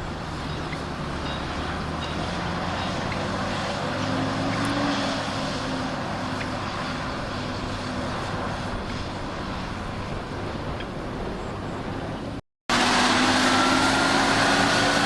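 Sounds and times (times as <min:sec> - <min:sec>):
heavy diesel engine under load: 0:00.0 - 0:15.0.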